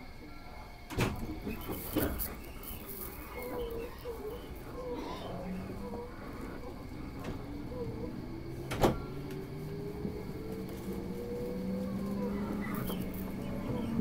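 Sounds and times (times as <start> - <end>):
train traction motors whining: 0.0 - 14.0.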